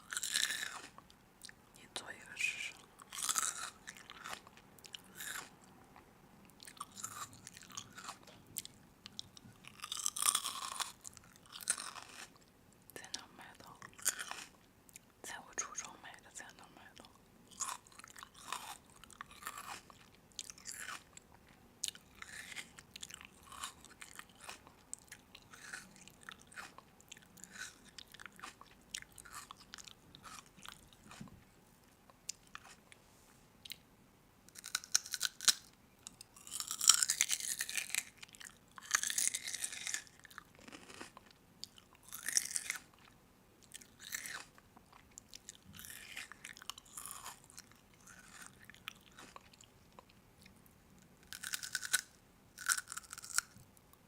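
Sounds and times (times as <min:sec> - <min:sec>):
person chewing crunchy food: 0:00.0 - 0:01.6, 0:02.2 - 0:15.1, 0:16.9 - 0:31.4, 0:32.1 - 0:33.0, 0:34.5 - 0:50.6, 0:51.2 - 0:53.6.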